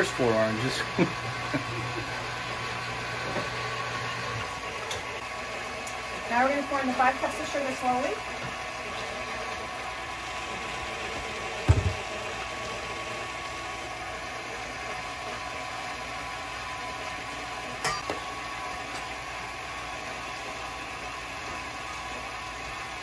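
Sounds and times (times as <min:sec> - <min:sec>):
electric mixer running: 0:00.0 - 0:23.0.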